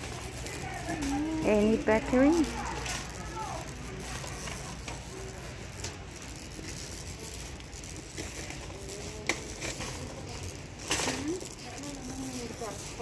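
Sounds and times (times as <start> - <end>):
faint distant voices: 0.0 - 13.0
steady low hum: 0.0 - 13.0.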